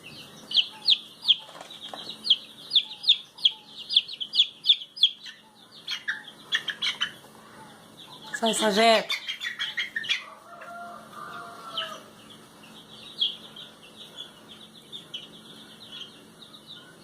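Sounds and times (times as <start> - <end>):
short high peeping calls: 0.0 - 17.0.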